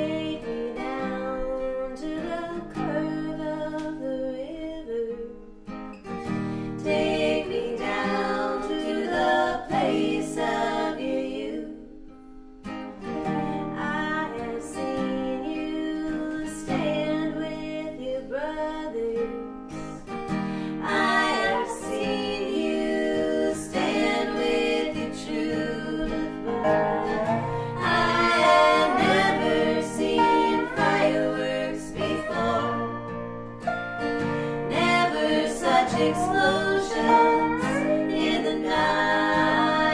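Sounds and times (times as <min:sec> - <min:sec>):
women singing in harmony: 0:00.0 - 0:05.4, 0:06.7 - 0:12.1, 0:13.1 - 0:33.3, 0:34.2 - 0:39.9
acoustic guitar: 0:00.0 - 0:39.9
dobro: 0:00.0 - 0:39.9.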